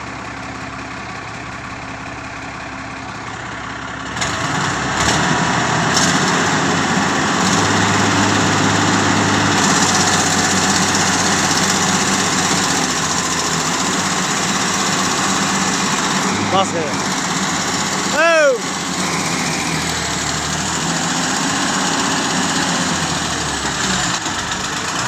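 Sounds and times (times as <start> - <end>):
excavator diesel engine revving: 0.0 - 25.0.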